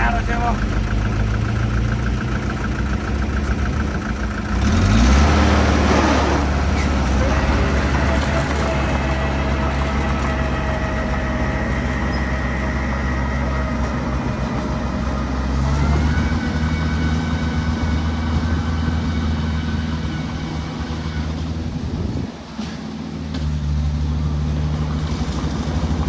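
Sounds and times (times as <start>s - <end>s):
heavy machine engine running: 0.0s - 26.0s.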